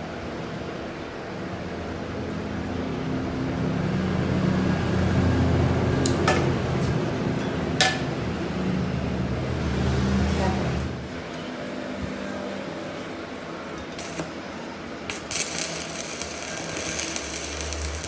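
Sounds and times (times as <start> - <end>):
workshop machine humming: 0.1 - 18.0.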